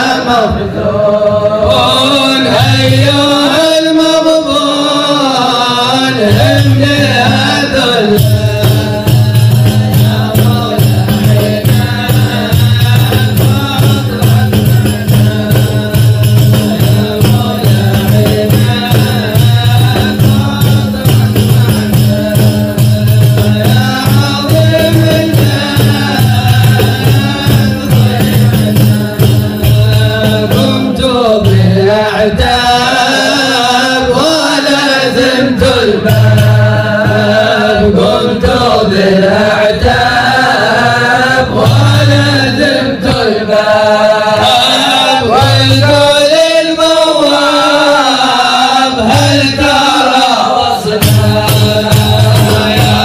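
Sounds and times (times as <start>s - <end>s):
men singing in unison: 0.0s - 53.0s
frame drums beating: 1.3s - 3.8s, 6.0s - 53.0s.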